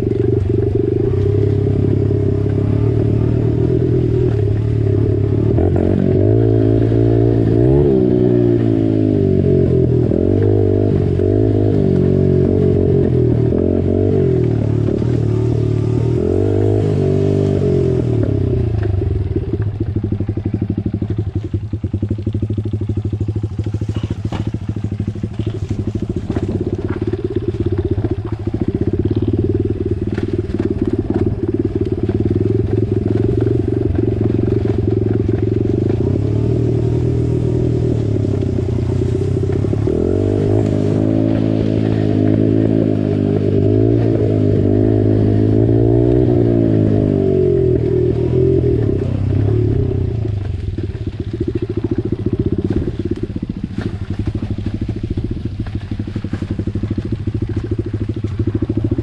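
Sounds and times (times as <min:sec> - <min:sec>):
small motorbike engine running: 0:00.0 - 0:59.0.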